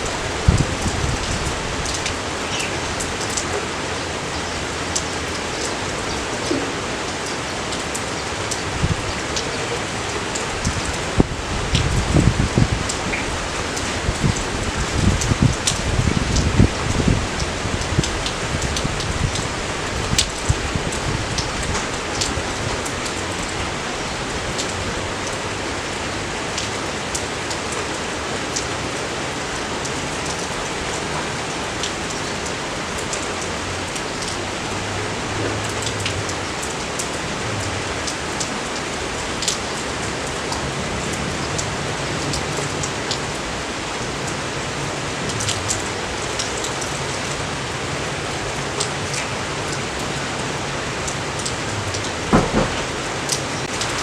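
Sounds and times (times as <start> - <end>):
raindrops ticking close by: 0.0 - 54.0
steady rain hiss: 0.0 - 54.0.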